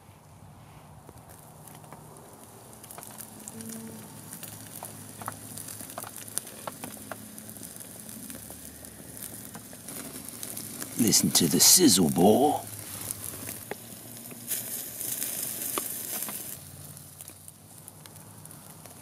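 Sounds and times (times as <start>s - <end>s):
fire pops and crackles: 1.0s - 19.0s
steak sizzling on grill: 2.4s - 19.0s.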